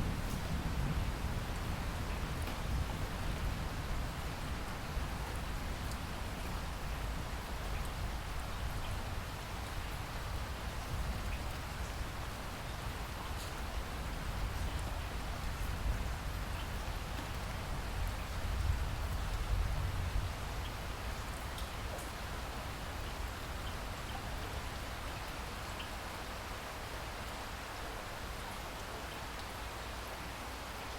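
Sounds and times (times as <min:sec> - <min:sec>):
rain drops ticking: 0:00.0 - 0:30.9
steady rain falling: 0:00.0 - 0:30.9.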